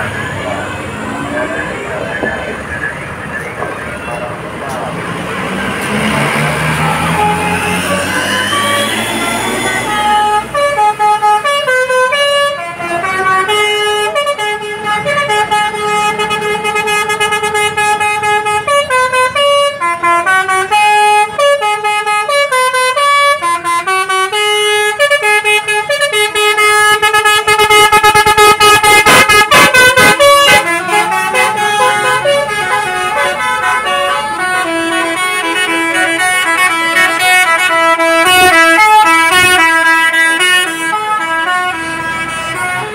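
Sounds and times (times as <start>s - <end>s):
multi-tone musical bus horn: 5.5s - 42.9s.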